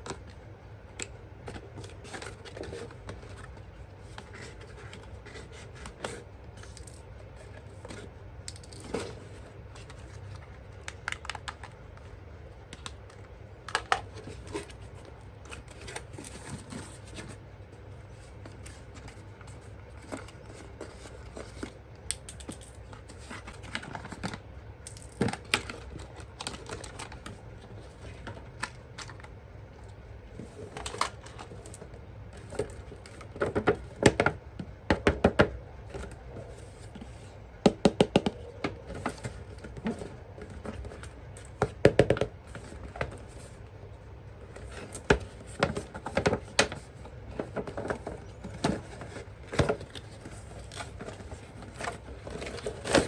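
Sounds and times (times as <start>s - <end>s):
hands handling plastic parts: 0.0s - 53.0s.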